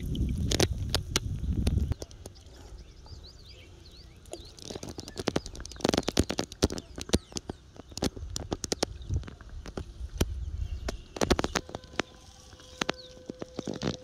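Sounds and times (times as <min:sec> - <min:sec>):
faint bird chirps: 0:01.4 - 0:14.0.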